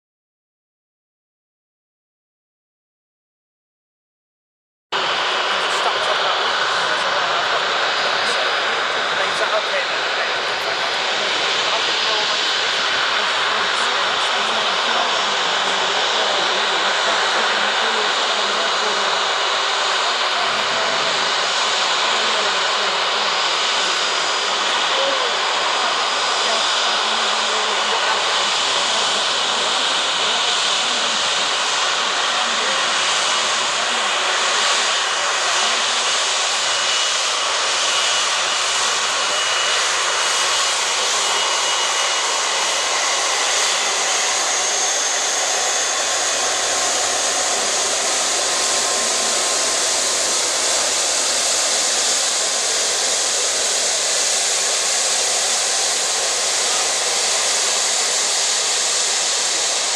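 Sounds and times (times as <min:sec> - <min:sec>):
jet engine whine and hiss: 0:05.0 - 0:59.9.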